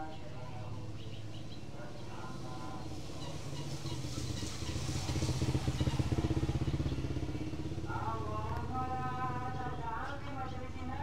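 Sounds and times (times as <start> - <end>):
motorcycle engine passing: 0.7 - 11.0.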